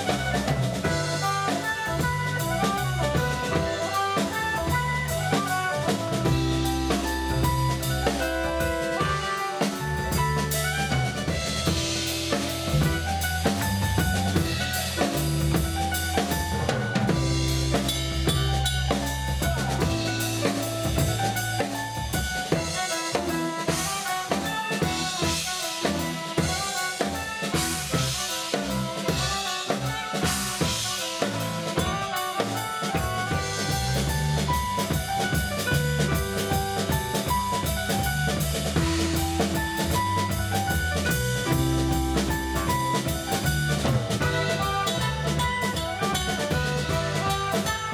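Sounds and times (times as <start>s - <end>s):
clarinet and saxophone melody: 0.0s - 47.9s
drum kit: 0.0s - 47.9s
electric bass: 0.0s - 47.9s.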